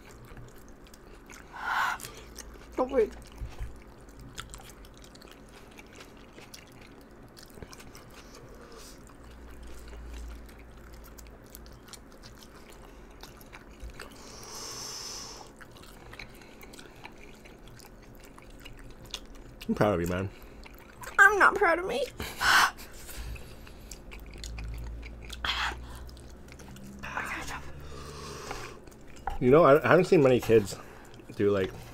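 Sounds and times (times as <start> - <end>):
people chewing and slurping noodles: 0.0 - 31.9.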